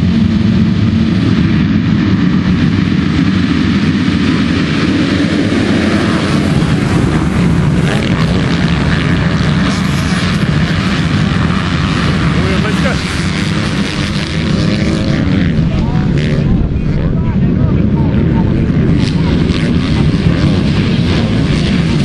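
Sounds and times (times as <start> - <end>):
motocross bikes revving: 0.0 - 22.0
motorbikes racing past: 0.0 - 22.0.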